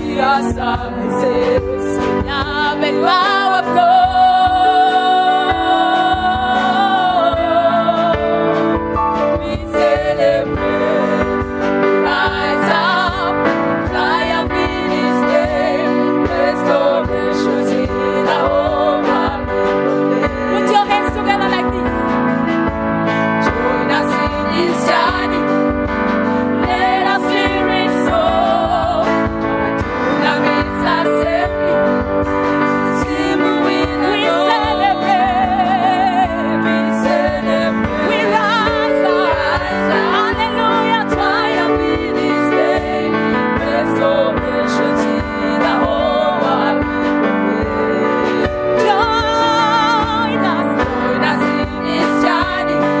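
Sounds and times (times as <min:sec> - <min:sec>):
person singing with vibrato: 0:00.0 - 0:22.2, 0:23.1 - 0:53.0
steady drum beat: 0:00.0 - 0:53.0
sustained keyboard chords: 0:00.0 - 0:53.0.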